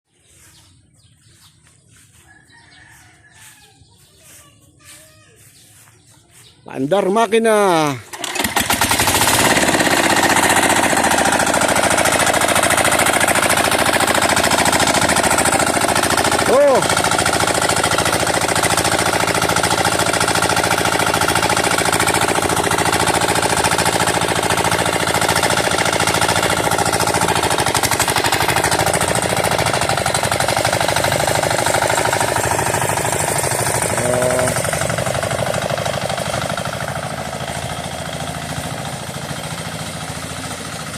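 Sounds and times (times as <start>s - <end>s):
farm machine engine running: 0.2s - 40.9s.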